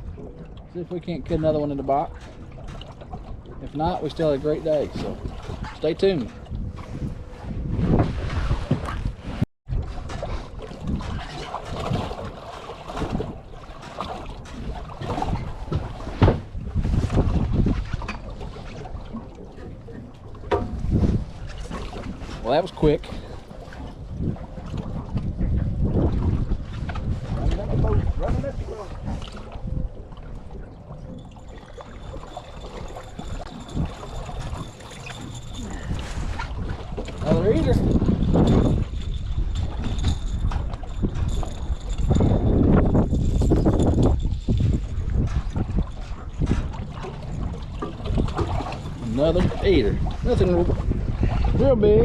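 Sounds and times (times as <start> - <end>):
water moving against hull: 0.0 - 52.0
wind buffeting microphone: 0.0 - 52.0.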